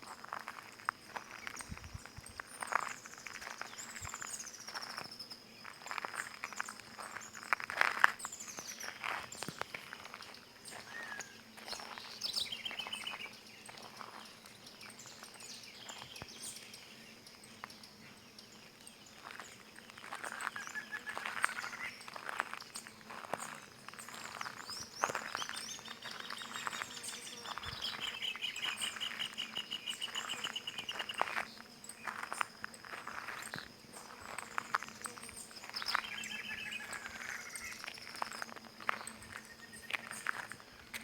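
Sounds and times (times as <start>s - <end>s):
faint insect drone: 0.0s - 41.0s
songbirds chirping and whistling: 1.2s - 41.0s.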